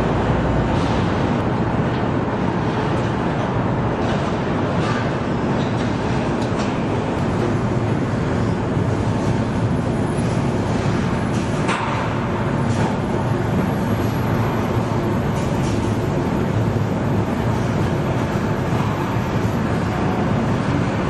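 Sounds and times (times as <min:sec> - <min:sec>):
machinery and conveyor noise: 0:00.0 - 0:21.0.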